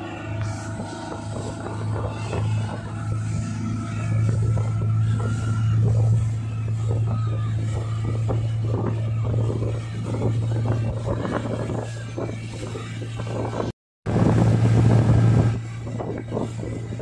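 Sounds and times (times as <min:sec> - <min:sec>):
motorboat engine humming: 0:00.0 - 0:17.0
water splashing in wake: 0:00.0 - 0:17.0.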